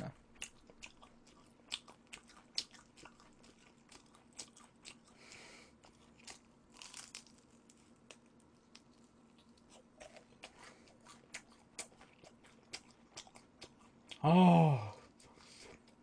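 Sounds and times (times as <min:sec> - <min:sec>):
chewing fried chicken: 0:00.1 - 0:16.0.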